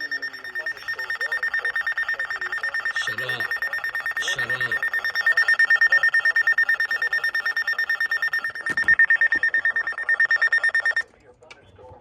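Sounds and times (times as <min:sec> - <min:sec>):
weather radio alert siren beeping: 0:00.0 - 0:11.0.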